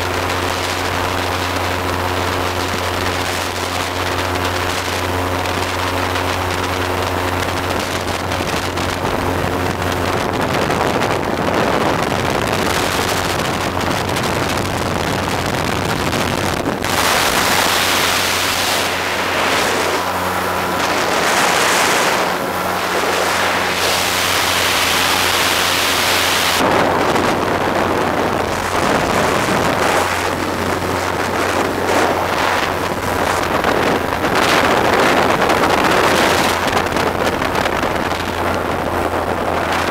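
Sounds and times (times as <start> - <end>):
low engine hum: 0.0 - 39.9
wind buffeting microphone: 0.0 - 39.9.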